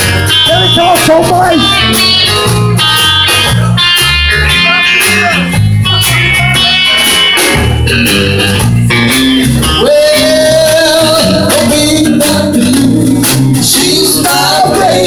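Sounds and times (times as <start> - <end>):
rock and roll band playing: 0.0 - 15.0.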